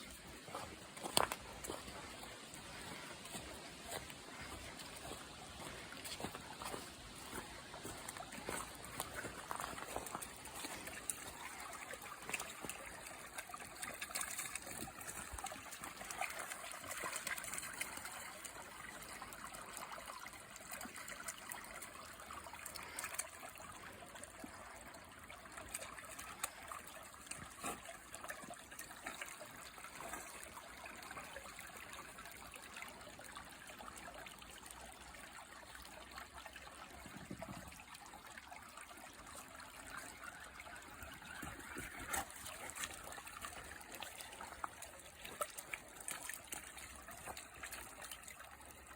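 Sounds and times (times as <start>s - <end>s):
stream water trickling: 0.0s - 48.9s.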